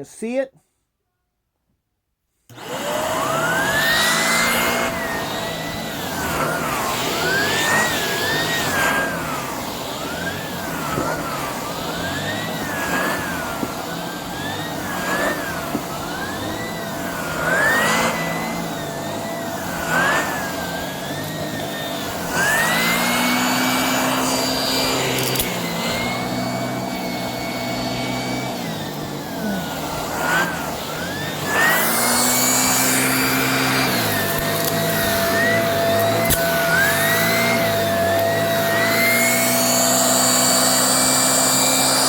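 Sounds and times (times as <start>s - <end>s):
handheld vacuum cleaner whine: 2.5s - 42.0s.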